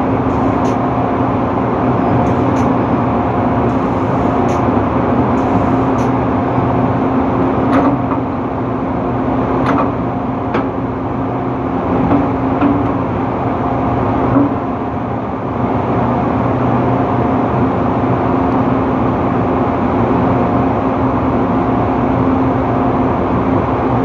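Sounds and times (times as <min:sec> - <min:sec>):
drilling rig machinery drone: 0:00.0 - 0:24.0.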